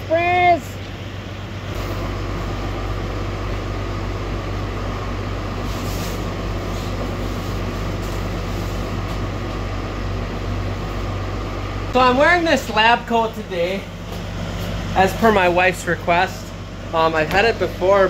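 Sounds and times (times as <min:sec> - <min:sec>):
machine hum with low drone: 0:00.0 - 0:18.0.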